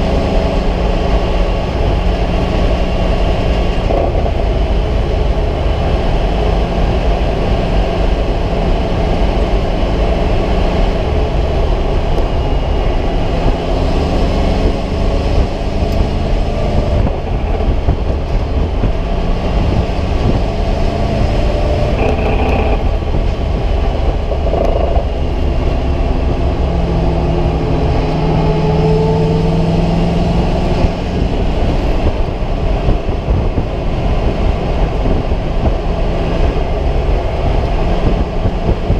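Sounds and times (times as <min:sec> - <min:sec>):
race car engine running hard: 0:00.0 - 0:38.9
wind and road noise: 0:00.0 - 0:38.9.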